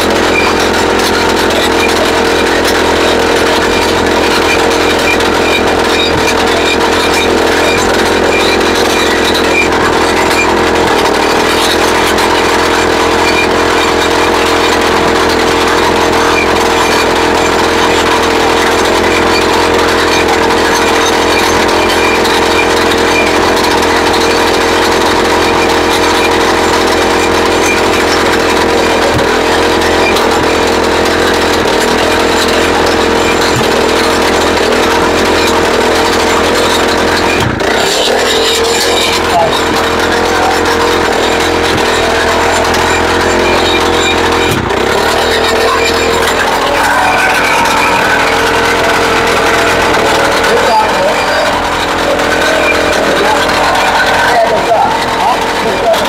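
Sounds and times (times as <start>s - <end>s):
petrol rock drill boring: 0.0s - 56.0s.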